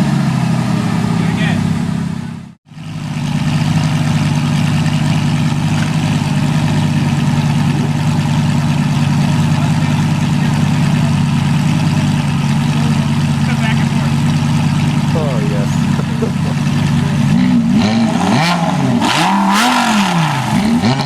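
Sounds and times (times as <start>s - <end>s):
sports car engine idling: 0.0s - 19.2s.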